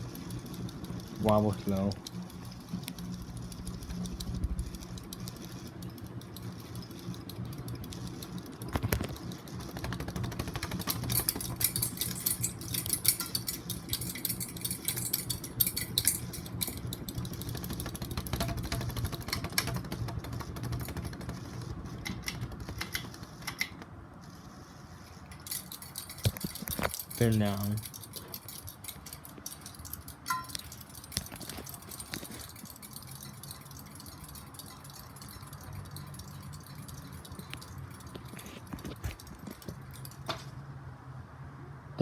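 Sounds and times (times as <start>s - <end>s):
light clicking and rattling: 0.0s - 40.6s
ceiling fan motor hum: 0.0s - 42.0s.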